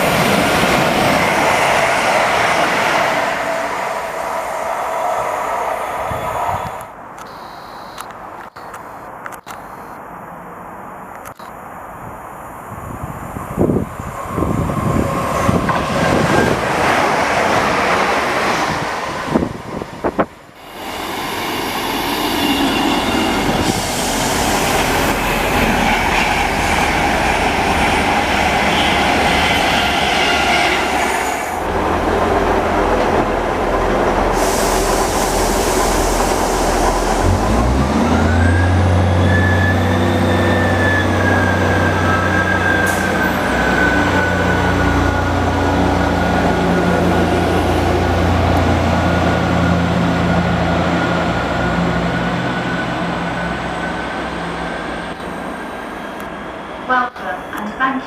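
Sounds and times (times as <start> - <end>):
train wheels on rails: 0.0 - 7.0, 13.0 - 58.0.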